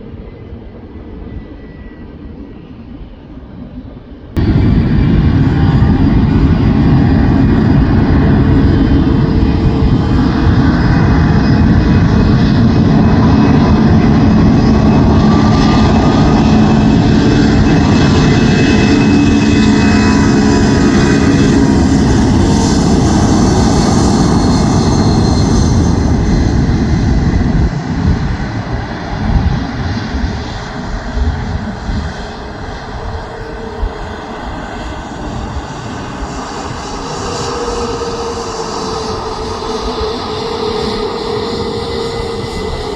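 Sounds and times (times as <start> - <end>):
jet airliner taking off: 0.0 - 42.9.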